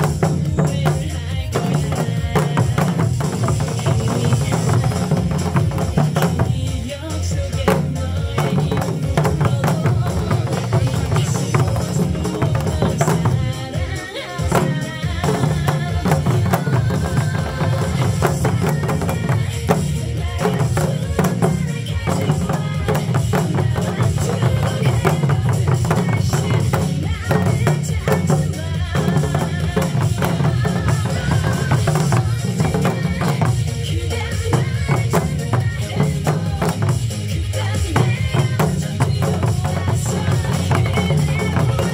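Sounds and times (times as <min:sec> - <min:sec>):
barrel drums beaten fast: 0:00.0 - 0:41.9.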